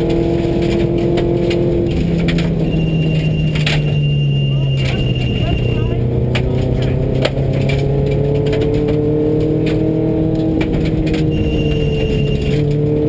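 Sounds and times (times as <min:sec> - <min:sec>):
car engine pulling at speed: 0:00.0 - 0:13.0
gravel clattering against car: 0:00.0 - 0:13.0.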